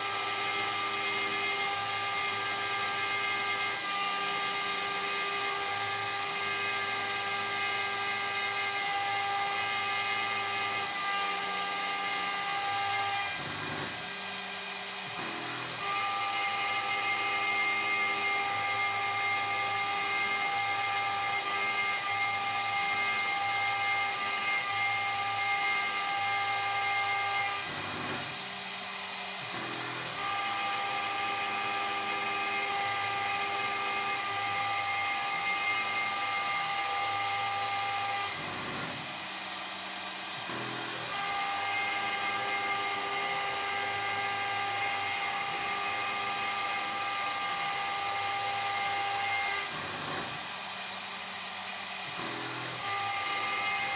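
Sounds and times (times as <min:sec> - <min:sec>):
cnc router spindle whine: 0:00.0 - 0:53.9.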